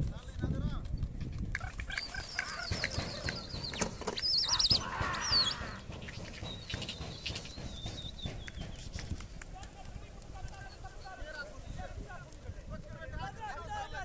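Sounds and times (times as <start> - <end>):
birds whistling and trilling: 0.8 - 12.2.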